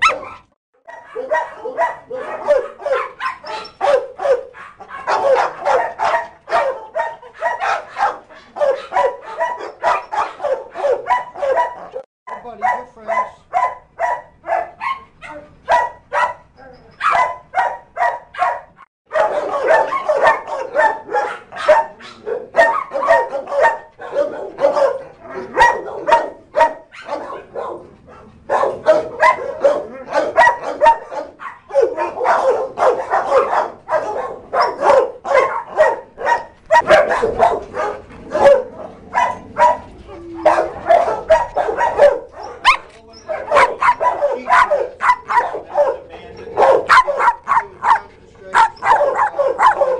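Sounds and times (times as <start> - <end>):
many dogs barking: 0.0 - 49.9.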